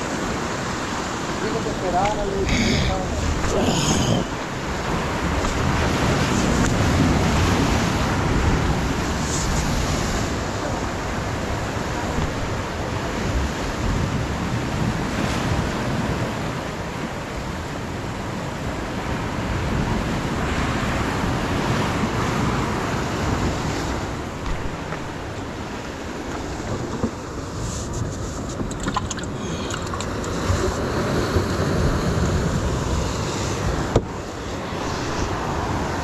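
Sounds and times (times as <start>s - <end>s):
surf washing against rocks: 0.0s - 36.0s
wind buffeting microphone: 0.0s - 36.0s.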